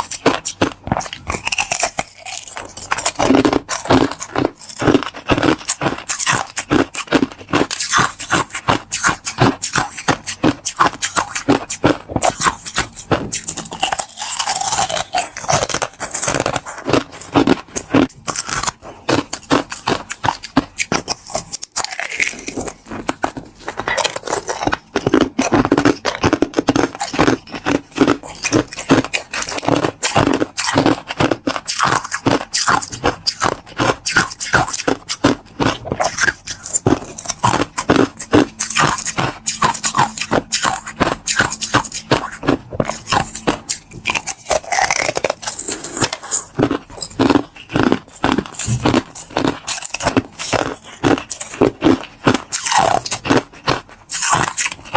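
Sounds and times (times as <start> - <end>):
chewing crunchy ice: 0.0 - 54.9.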